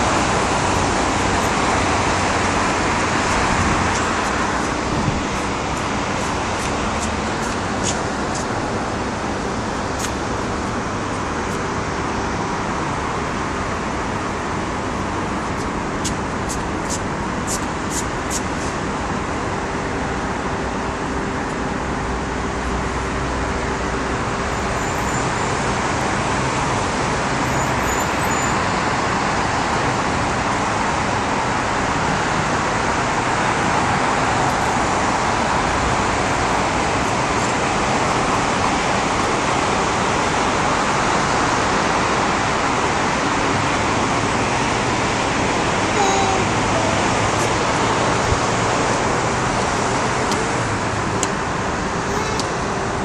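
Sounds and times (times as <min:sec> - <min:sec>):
city traffic noise: 0:00.0 - 0:53.0.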